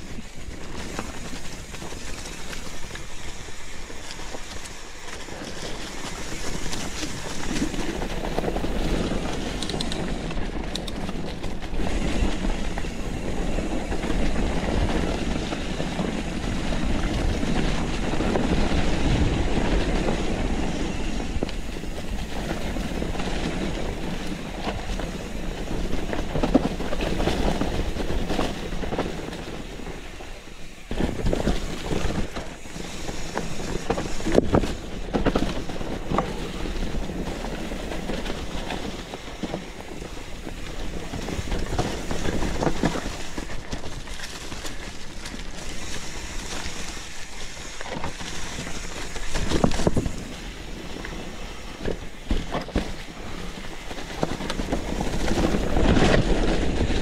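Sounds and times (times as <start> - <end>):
bike knocking and rattling: 0.0 - 57.0
bike tyres rumbling on dirt: 0.0 - 57.0.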